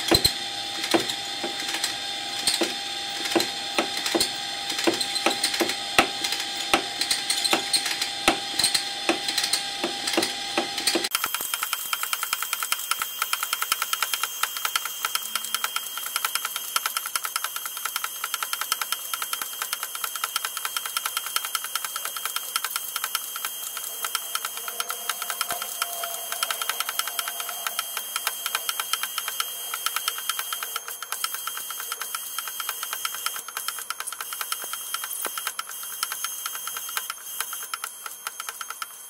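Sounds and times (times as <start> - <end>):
small motor rattling: 0.0 - 39.0.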